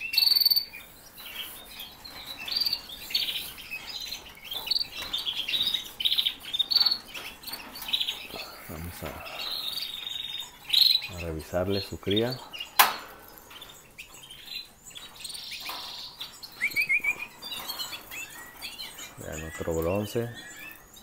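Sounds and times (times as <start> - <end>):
canaries chirping and trilling: 0.0 - 21.0.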